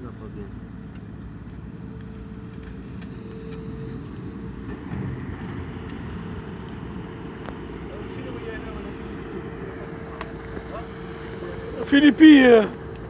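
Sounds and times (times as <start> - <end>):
engine rumble with hum: 0.0 - 13.0.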